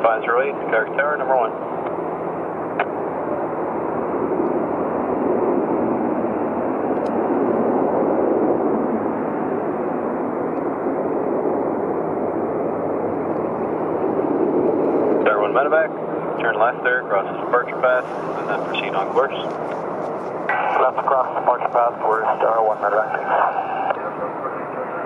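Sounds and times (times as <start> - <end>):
jet airliner roar: 0.0 - 25.0.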